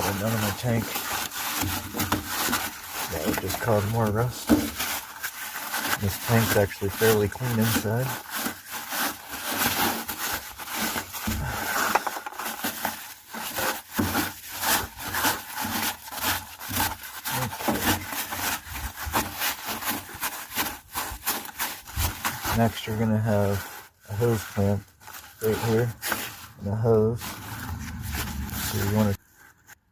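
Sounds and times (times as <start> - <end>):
rag scrubbing metal: 0.0 - 29.2.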